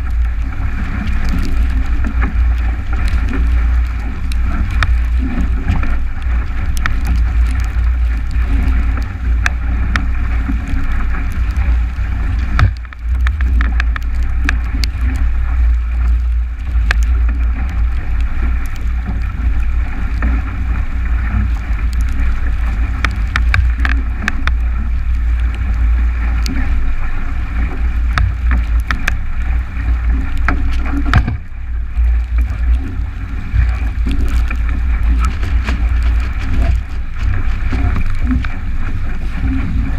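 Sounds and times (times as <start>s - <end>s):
water rushing along hull: 0.0s - 39.9s
wind buffeting microphone: 0.0s - 39.9s.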